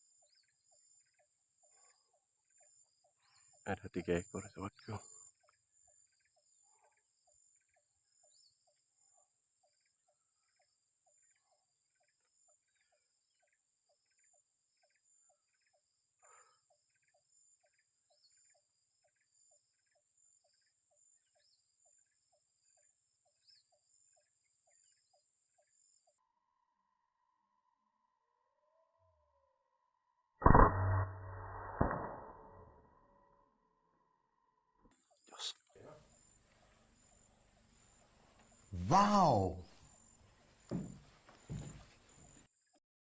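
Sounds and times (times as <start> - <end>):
insect chirping: 0.0 - 30.4, 33.0 - 42.8.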